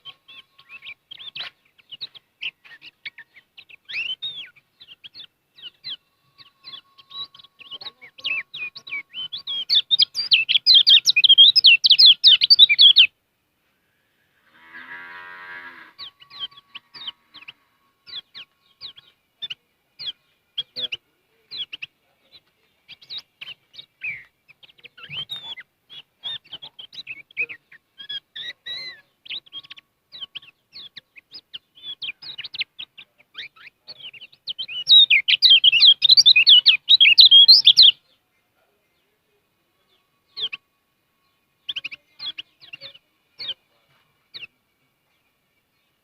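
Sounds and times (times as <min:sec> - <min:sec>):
bird chirping and twittering: 0:00.0 - 0:13.2, 0:14.7 - 0:46.0.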